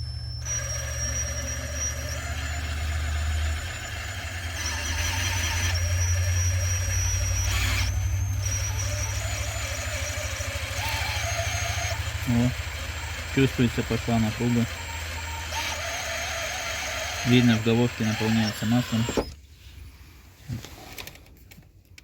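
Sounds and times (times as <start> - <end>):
cordless drill whining: 0.0 - 19.5.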